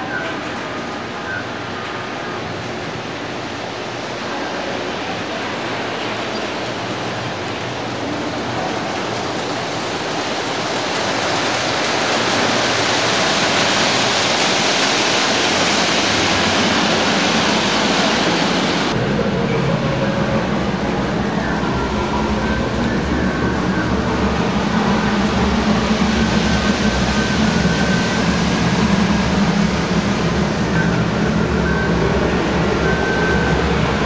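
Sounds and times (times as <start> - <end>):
model trains rumbling on track: 0.0 - 34.0.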